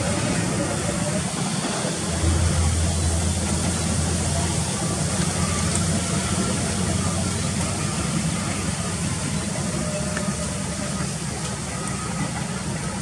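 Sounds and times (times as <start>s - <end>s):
large engine humming: 0.0s - 13.0s
noisy hiss: 0.0s - 13.0s.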